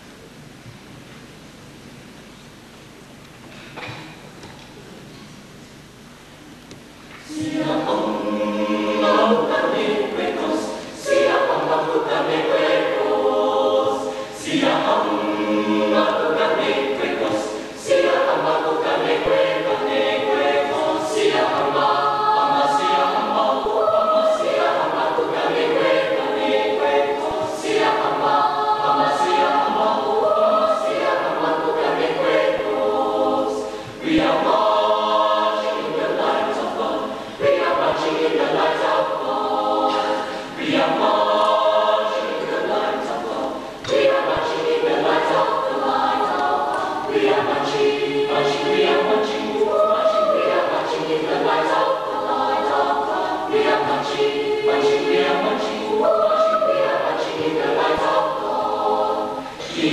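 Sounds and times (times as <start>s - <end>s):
choir singing: 7.2s - 59.9s.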